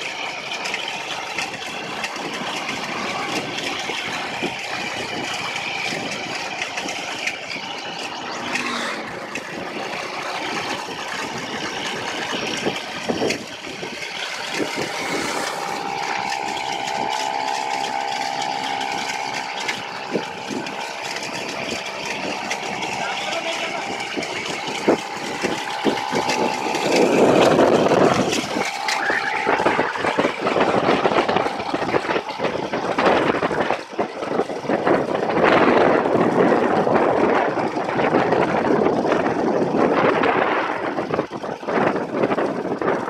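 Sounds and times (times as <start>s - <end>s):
higher engine drone: 0.0s - 43.0s
road and wind noise: 0.0s - 43.0s
small engine drone: 0.0s - 43.0s.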